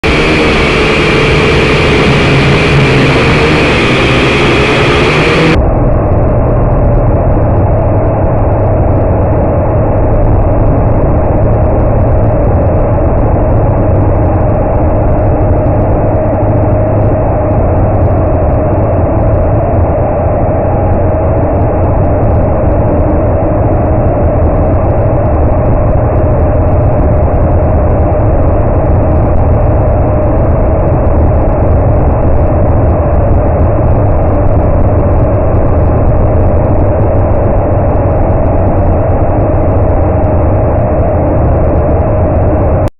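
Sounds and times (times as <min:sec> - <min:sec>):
deep engine drone: 0:00.0 - 0:42.9.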